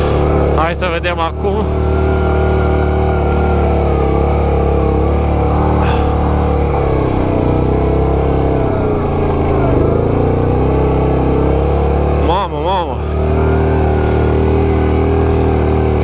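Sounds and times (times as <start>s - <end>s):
atv engine labouring uphill: 0.0s - 16.0s.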